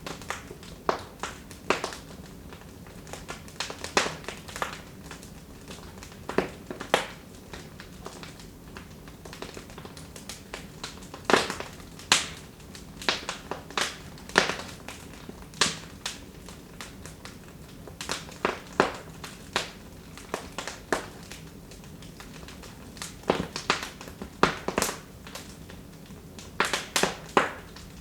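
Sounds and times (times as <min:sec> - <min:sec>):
faint steady hiss: 0:00.0 - 0:28.0
wood fire crackling: 0:00.0 - 0:28.0.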